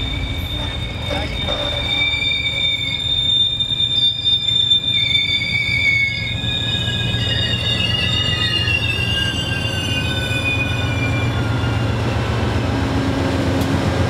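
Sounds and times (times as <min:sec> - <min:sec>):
steel wheels squealing: 0:00.0 - 0:12.6
wheels rumbling on rail: 0:00.0 - 0:14.0.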